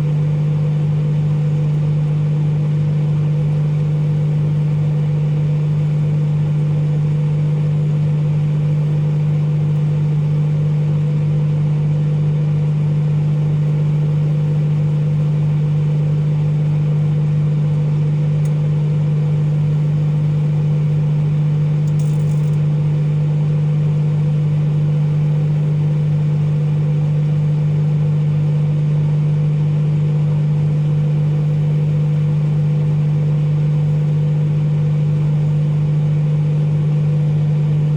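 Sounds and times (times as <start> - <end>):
microwave oven humming: 0.0 - 37.9.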